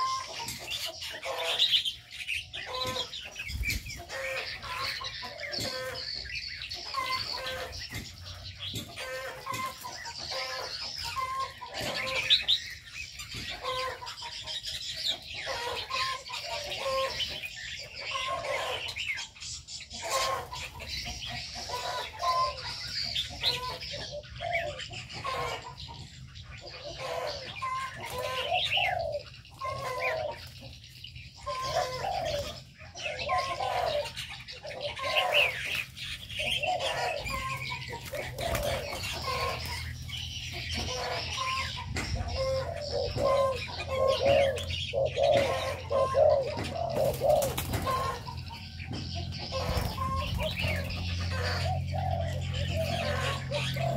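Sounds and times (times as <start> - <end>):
doves cooing: 0.0 - 53.9
small birds chirping: 0.0 - 53.9.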